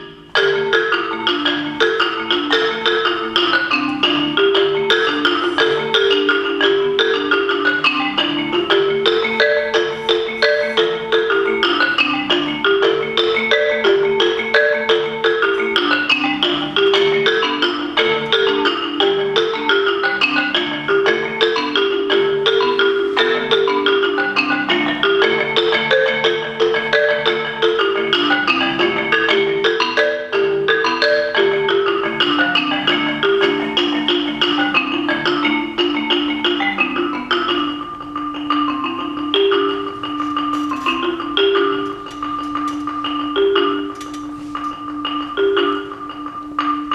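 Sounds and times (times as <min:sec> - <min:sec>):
marimba played with mallets: 0:00.0 - 0:46.9.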